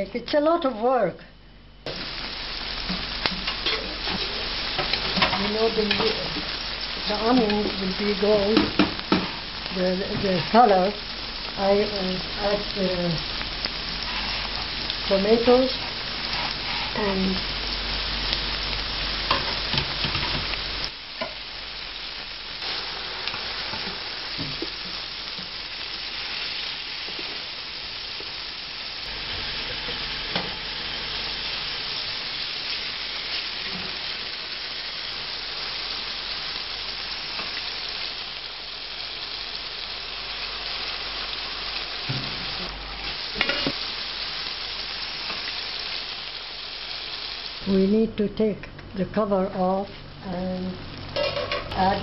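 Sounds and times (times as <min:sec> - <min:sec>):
onions sizzling in a pot: 0:01.8 - 0:52.0.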